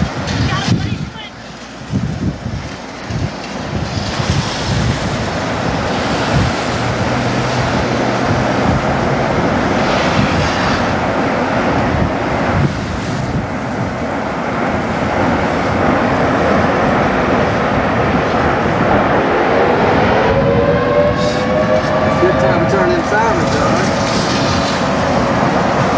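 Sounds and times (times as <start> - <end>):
roar of strong winds: 0.0 - 25.9
wind rushing over microphone: 0.0 - 25.9.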